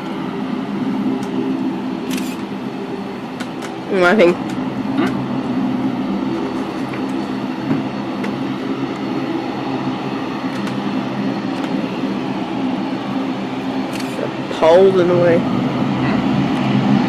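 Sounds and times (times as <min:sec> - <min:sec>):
aircraft engines humming: 0:00.0 - 0:17.0
high engine whine: 0:00.0 - 0:17.0.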